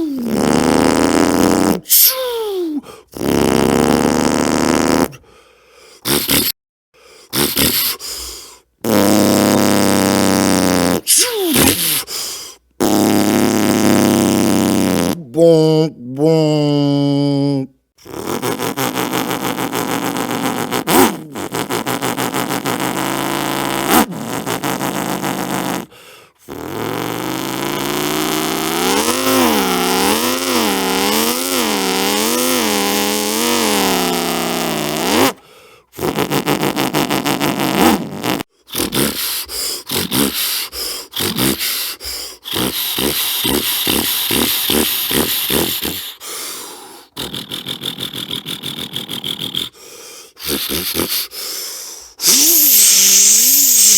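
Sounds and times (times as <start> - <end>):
man imitating machine noises: 0.0 - 53.9.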